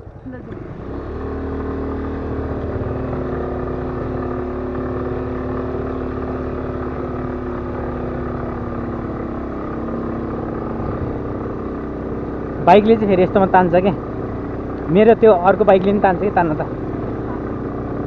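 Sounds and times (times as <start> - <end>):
scooter engine straining uphill: 0.0 - 18.0.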